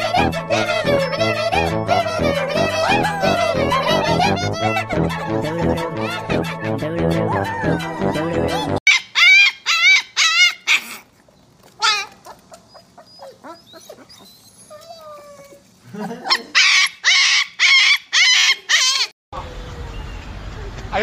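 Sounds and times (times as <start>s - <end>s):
puppies whimpering: 0.0s - 6.6s, 7.3s - 19.2s
puppies yipping and crying: 0.0s - 6.6s, 7.3s - 20.2s.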